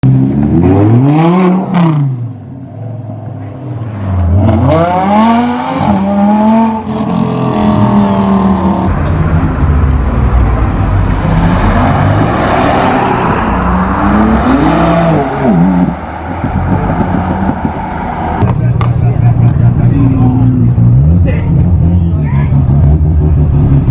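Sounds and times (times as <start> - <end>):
car engine revving and accelerating: 0.0 - 23.9
road noise: 0.0 - 23.9.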